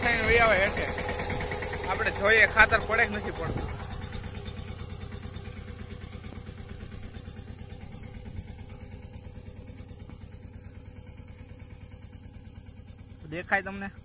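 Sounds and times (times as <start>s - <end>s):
small tractor engine chugging: 0.0s - 14.0s.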